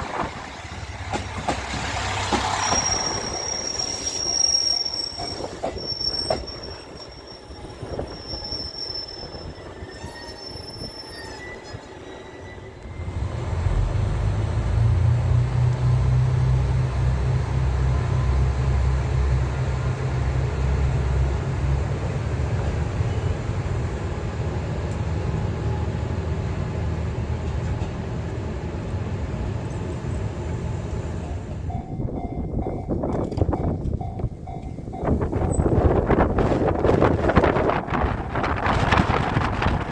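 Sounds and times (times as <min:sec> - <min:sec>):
rolling rail noise: 0:00.0 - 0:39.9.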